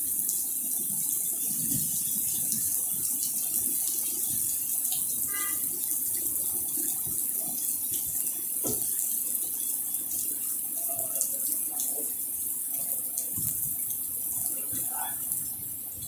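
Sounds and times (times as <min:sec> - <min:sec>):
heavy rain on wet pavement: 0:00.0 - 0:16.0.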